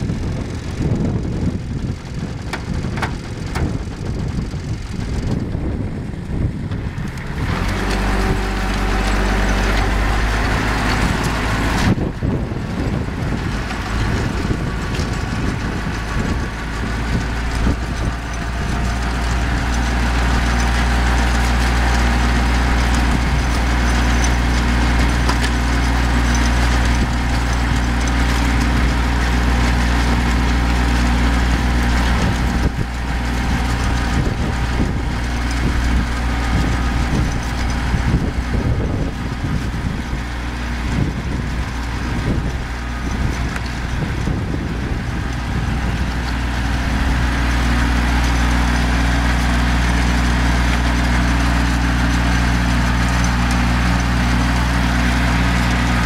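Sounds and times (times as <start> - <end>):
tiller rushing through soil: 0.0 - 56.0
tractor engine hum: 0.0 - 56.0.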